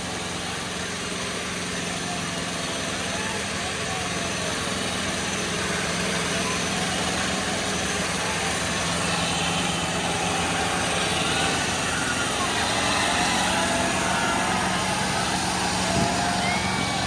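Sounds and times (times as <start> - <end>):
tractor engines running: 0.0 - 17.0.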